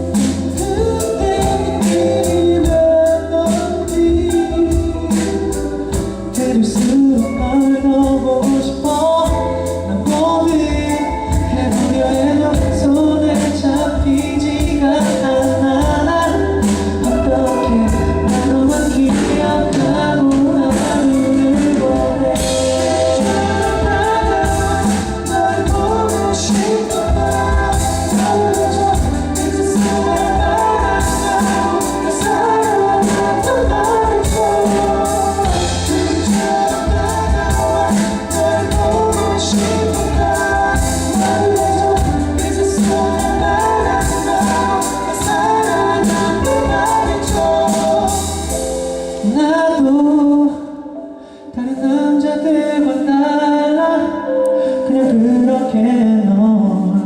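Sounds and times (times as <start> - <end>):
steady drum beat: 0.0 - 7.3, 8.0 - 49.1
backing vocals: 0.0 - 50.5
live pop ballad by a band: 0.0 - 57.0
male lead singer: 0.0 - 57.0.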